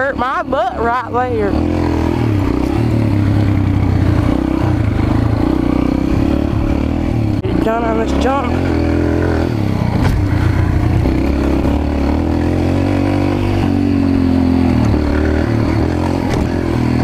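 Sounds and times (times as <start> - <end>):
small bike engine revving: 0.0 - 17.0.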